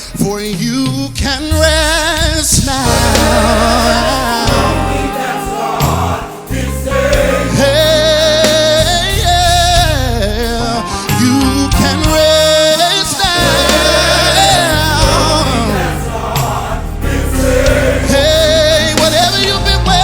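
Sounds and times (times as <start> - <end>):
live band with bass line: 0.0 - 20.0
choir singing held notes: 2.6 - 9.8, 11.1 - 20.0.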